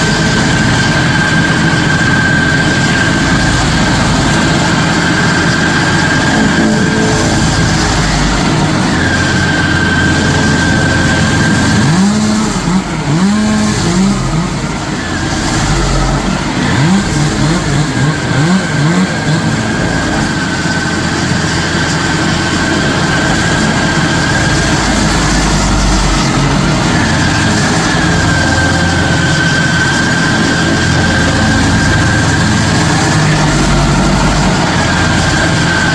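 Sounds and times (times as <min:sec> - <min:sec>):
high whine: 0:00.0 - 0:35.9
stump grinder running: 0:00.0 - 0:35.9.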